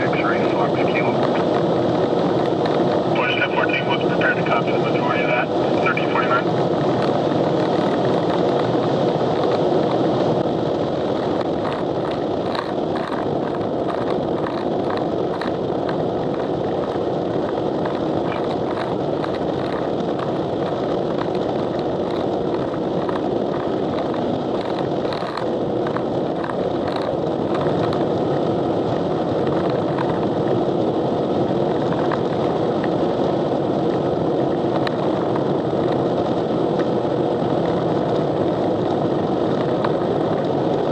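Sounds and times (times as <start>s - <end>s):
road and wind noise inside car: 0.0s - 40.9s.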